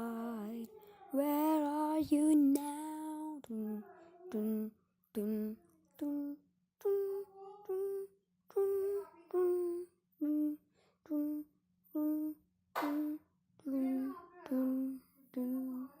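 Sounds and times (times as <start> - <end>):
person singing wordless melody: 0.0 - 16.0.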